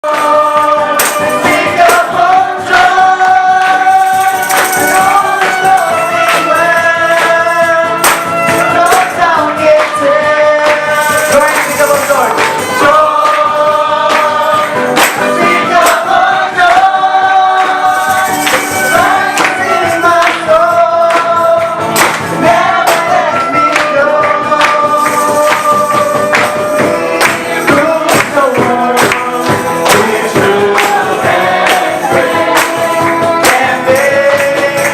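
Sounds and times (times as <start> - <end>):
church choir singing: 0.0 - 11.8, 12.5 - 34.9
percussion hits: 0.0 - 34.9.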